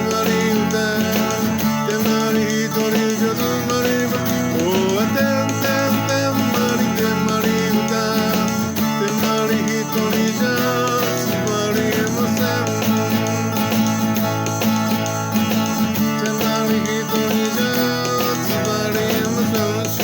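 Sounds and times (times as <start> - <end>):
pop song with guitar and band: 0.0 - 20.0.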